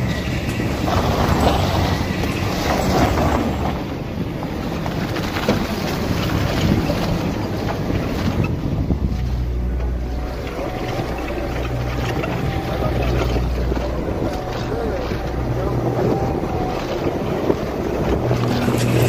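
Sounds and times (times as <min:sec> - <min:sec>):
engine running at low speed: 0:00.0 - 0:19.0
tyres crunching over snow: 0:00.0 - 0:19.0
wind buffeting microphone: 0:00.0 - 0:19.0.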